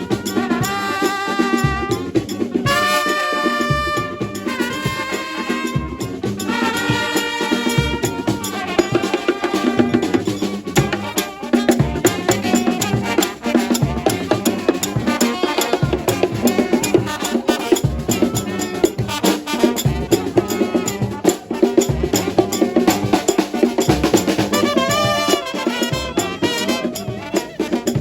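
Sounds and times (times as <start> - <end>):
lively music with drum beat: 0.0 - 28.0.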